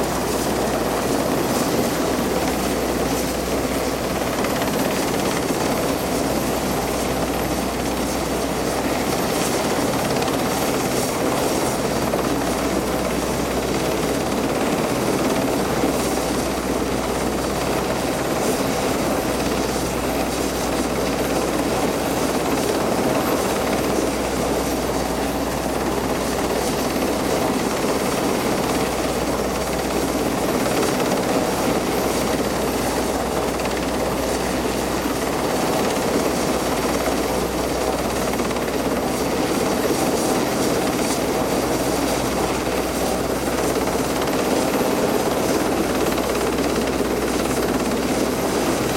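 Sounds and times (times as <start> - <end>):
helicopter rotors and engines: 0.0 - 48.9.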